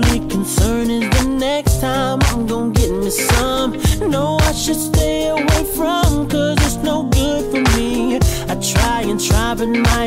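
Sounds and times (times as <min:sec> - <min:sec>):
r and b pop music: 0:00.0 - 0:10.0.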